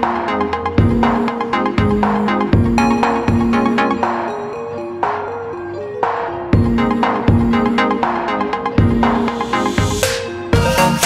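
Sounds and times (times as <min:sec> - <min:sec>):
electronic music with synth melody: 0:00.0 - 0:11.0.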